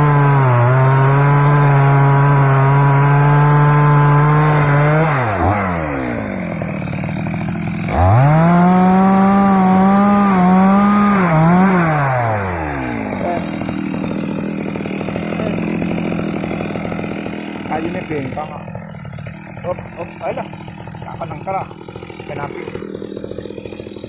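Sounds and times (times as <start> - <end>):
chainsaw revving and idling: 0.0 - 24.0.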